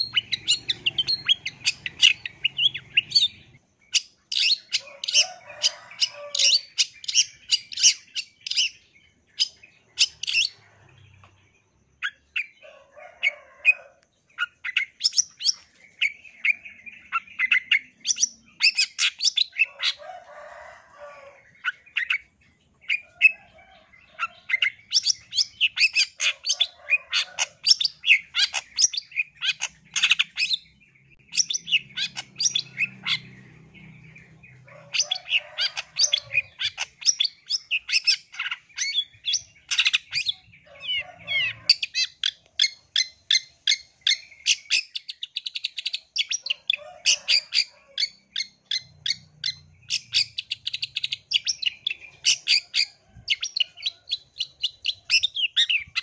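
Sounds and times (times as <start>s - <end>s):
bird singing high chirps: 0.0s - 13.2s, 14.2s - 20.6s, 21.2s - 56.0s.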